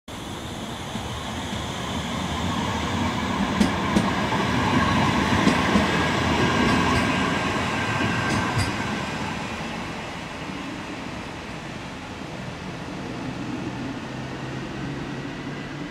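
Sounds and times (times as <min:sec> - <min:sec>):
tram rolling on rails: 0:00.1 - 0:15.9.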